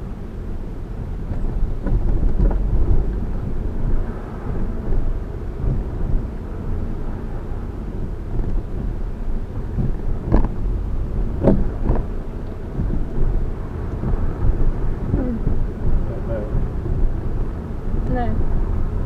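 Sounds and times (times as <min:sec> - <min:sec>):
road and drivetrain rumble: 0:00.0 - 0:19.0
suspension clunks: 0:00.0 - 0:19.0.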